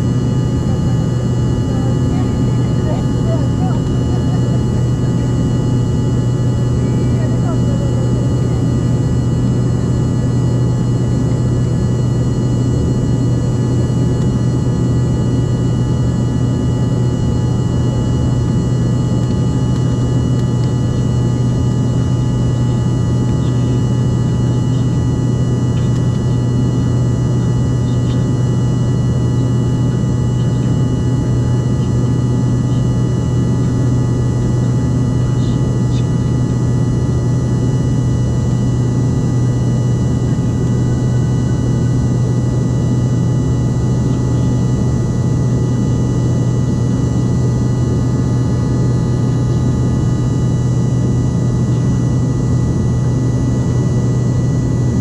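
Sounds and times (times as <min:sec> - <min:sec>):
propeller drone in cabin: 0:00.0 - 0:55.0.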